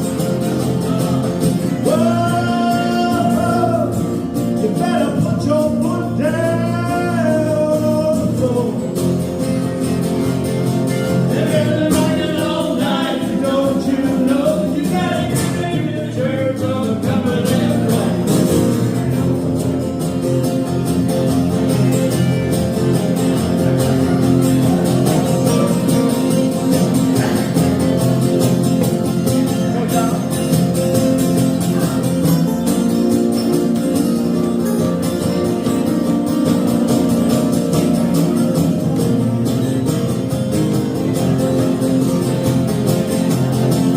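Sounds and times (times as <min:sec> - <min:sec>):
strummed acoustic guitar: 0:00.0 - 0:43.9
sung melody: 0:00.0 - 0:43.9.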